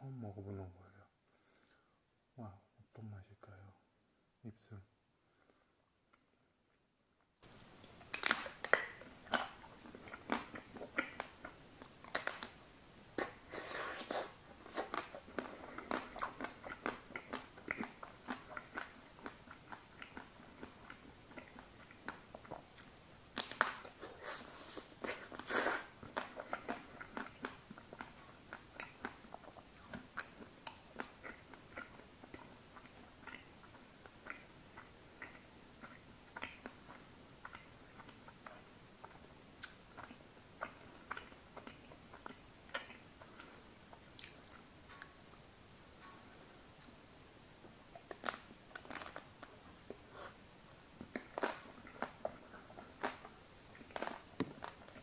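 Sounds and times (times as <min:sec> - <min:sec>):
wet chewing: 0:07.4 - 0:47.0, 0:47.9 - 0:55.0.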